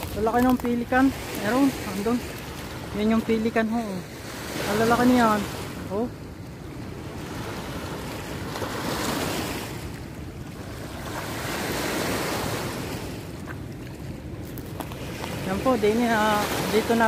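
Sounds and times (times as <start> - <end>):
river rushing: 0.0 - 14.4, 15.0 - 17.0.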